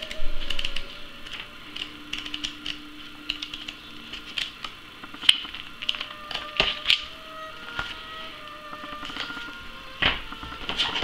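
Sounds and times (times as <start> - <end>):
booklet pages flicking: 0.0 - 11.0.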